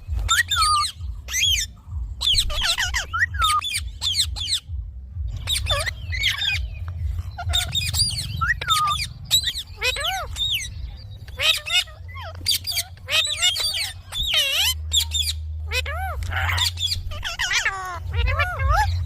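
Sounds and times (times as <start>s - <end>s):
steady low rumble: 0.0s - 19.0s
parakeet shrill squawks: 0.2s - 4.8s, 5.4s - 19.0s.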